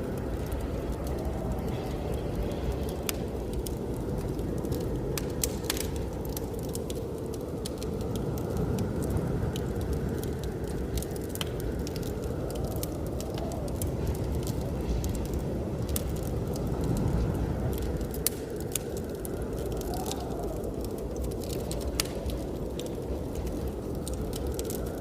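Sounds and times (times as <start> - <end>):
blizzard wind rumbling: 0.0 - 25.0
wood fire crackling and popping: 0.0 - 25.0.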